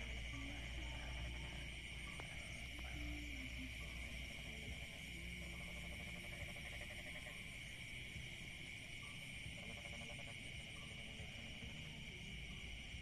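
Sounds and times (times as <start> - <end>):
crickets chirring: 0.0 - 13.0
low pulsing insect calls: 0.0 - 13.0.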